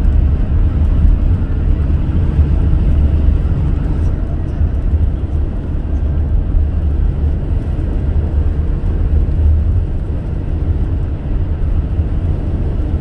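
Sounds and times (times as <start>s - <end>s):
car driving on highway: 0.0s - 13.0s
road and wind noise: 0.0s - 13.0s.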